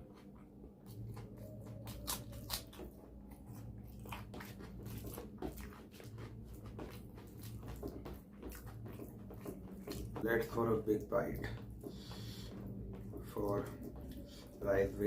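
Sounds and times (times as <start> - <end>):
person chewing food: 0.0 - 10.2, 11.4 - 14.6
low hum: 0.0 - 15.0.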